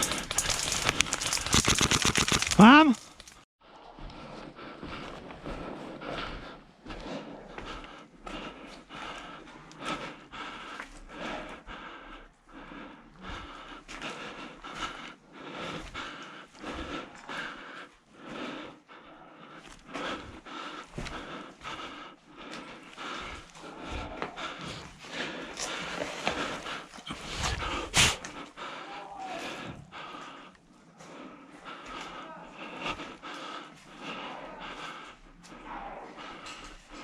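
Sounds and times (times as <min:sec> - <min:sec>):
person breathing hard: 0:00.0 - 0:03.1, 0:03.8 - 0:37.0.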